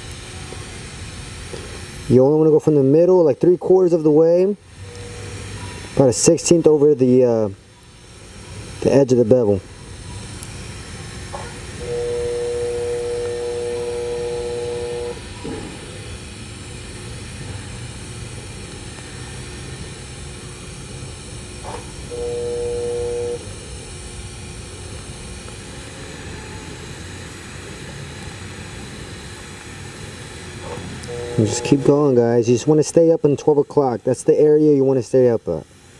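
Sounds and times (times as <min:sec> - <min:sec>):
loud electric hum: 0:00.0 - 0:35.9
welding arc hissing: 0:00.0 - 0:35.9.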